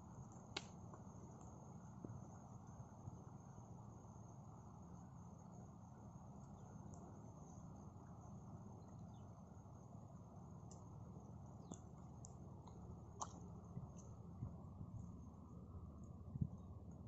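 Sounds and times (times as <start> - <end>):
insect trill: 0.0 - 17.0.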